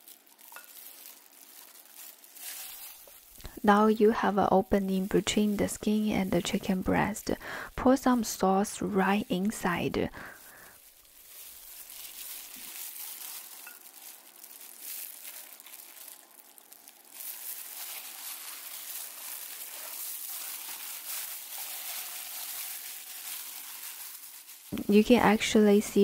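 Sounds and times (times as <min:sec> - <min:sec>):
plastic gloves crinkling: 0:00.0 - 0:26.0.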